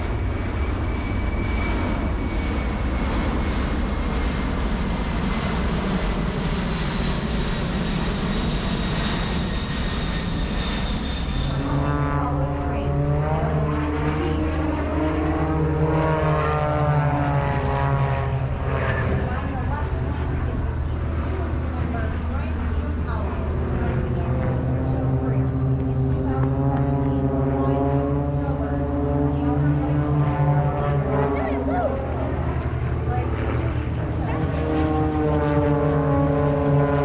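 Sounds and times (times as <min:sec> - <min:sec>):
propeller airplane engine: 0:00.0 - 0:37.0.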